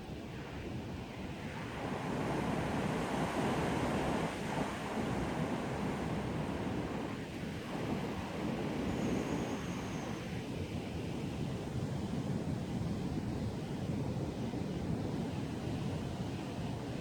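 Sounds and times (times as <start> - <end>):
strong wind through trees: 0.0 - 17.0.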